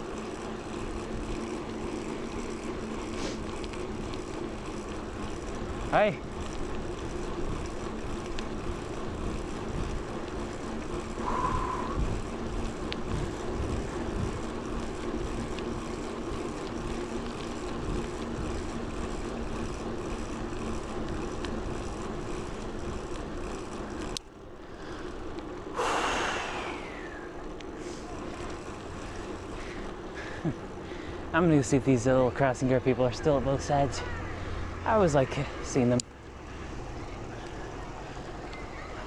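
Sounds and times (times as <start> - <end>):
bicycle road and wind noise: 0.0 - 39.0.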